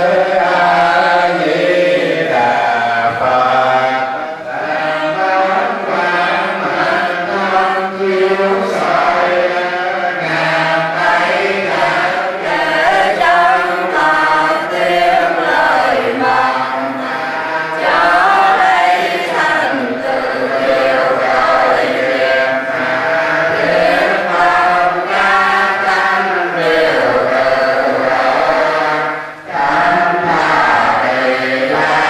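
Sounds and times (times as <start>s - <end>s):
many voices chanting prayers: 0.0s - 32.0s.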